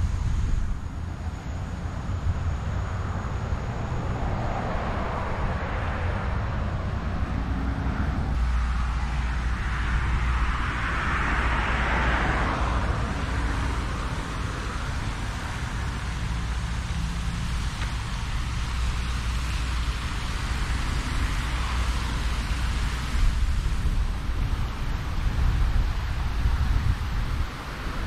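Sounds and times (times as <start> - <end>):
low traffic rumble: 0.0 - 28.0
car passing: 0.8 - 28.0.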